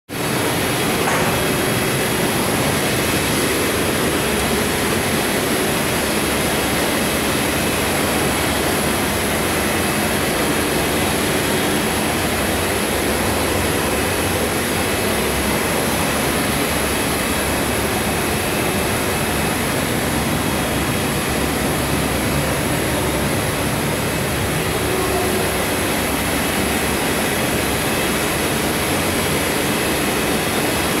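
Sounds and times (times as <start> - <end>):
high machine whine: 0.2 - 31.0
machinery and ventilation rush: 0.2 - 31.0.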